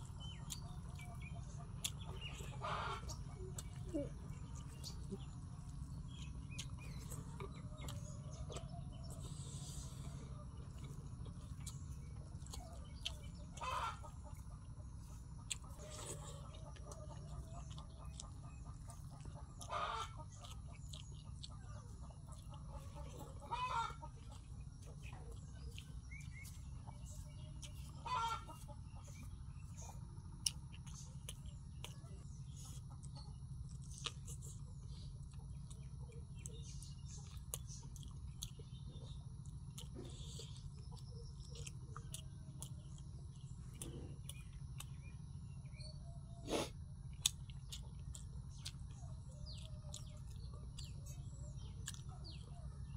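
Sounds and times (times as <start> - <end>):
chickens clucking: 0.0 - 52.9
steady low hum: 0.0 - 52.9.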